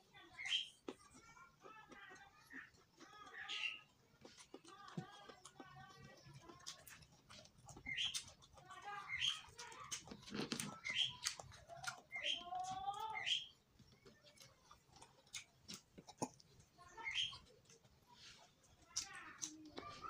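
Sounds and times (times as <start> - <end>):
chewing: 0.0 - 20.0.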